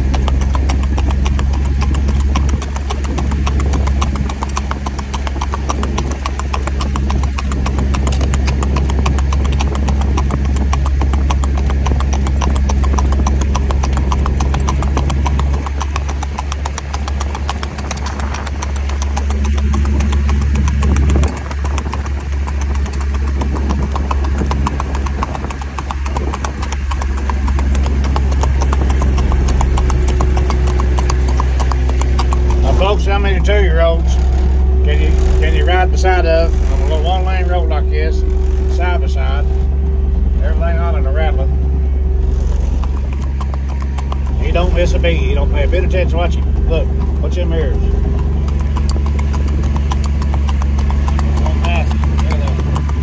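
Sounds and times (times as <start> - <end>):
hoofbeats clip-clopping on asphalt: 0.0 - 53.0
utility vehicle engine humming: 0.0 - 53.0.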